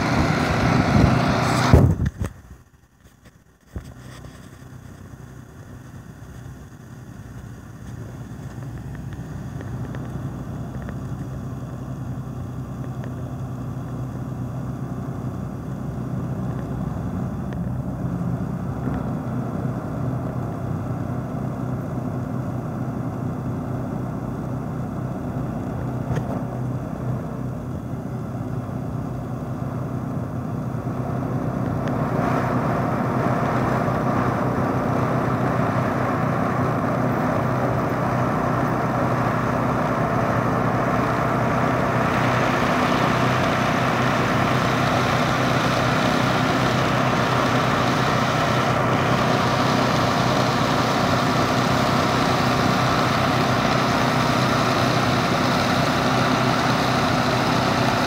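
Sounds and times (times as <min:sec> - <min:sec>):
truck crane engine running: 0:00.0 - 0:58.0.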